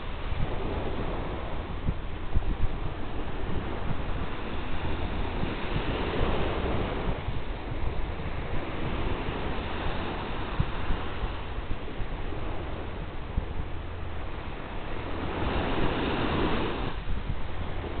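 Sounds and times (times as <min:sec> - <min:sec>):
waves breaking on sandy beach: 0:00.0 - 0:18.0
wind buffeting microphone: 0:00.0 - 0:18.0.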